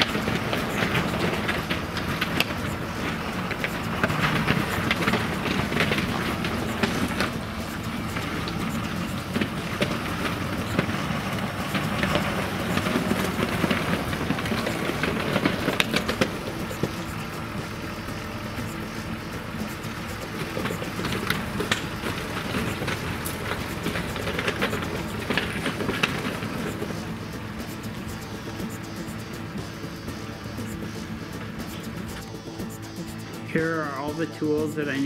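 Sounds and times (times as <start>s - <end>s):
diesel truck engine running: 0.0s - 35.0s
sharp clicks and rattles: 0.0s - 35.0s.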